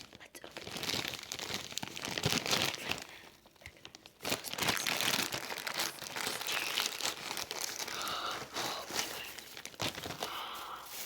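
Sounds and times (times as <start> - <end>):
package wrapping tearing and crinkling: 0.0 - 11.0.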